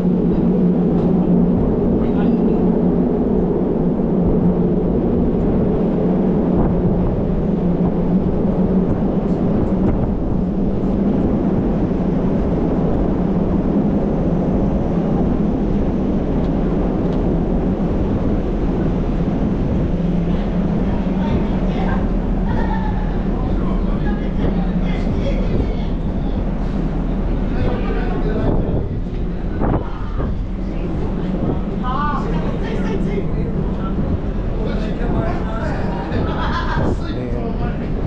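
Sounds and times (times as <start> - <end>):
low hum: 0.0 - 38.0
wind rumbling on microphone: 0.0 - 38.0.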